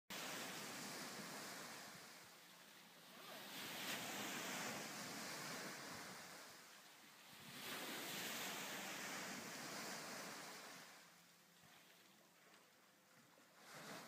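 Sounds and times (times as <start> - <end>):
waves breaking on sand: 0.1 - 14.0.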